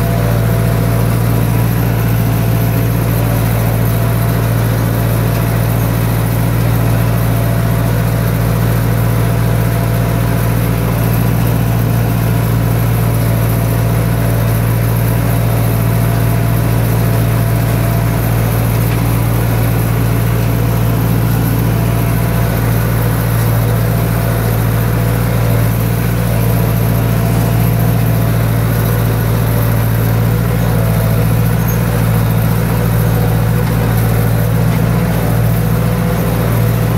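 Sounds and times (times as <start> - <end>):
engine running with low hum: 0.0 - 36.9.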